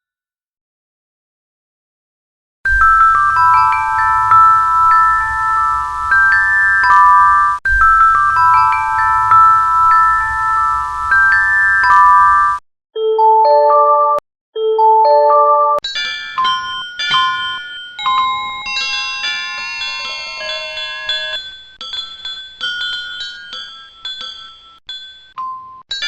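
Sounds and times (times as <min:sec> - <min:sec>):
bell-like chime tones: 0:02.7 - 0:26.0.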